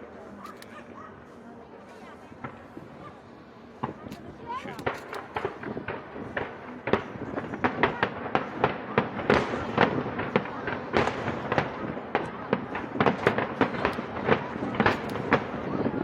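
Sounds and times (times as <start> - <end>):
crowd voices: 0.0 - 16.0
fireworks bangs and crackles: 2.2 - 16.0.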